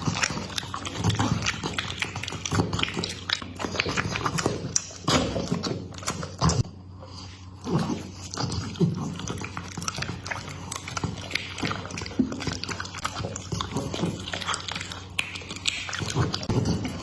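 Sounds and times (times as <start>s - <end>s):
dog chewing food: 0.0s - 17.0s.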